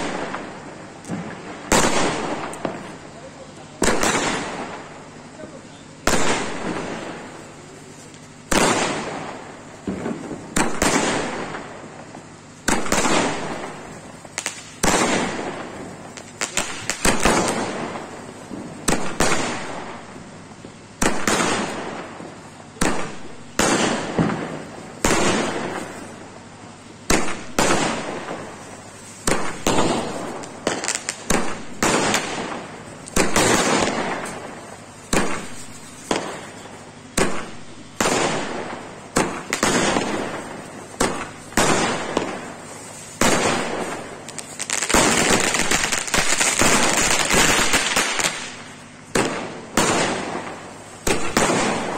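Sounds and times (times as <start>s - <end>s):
fireworks banging: 0.0s - 51.9s.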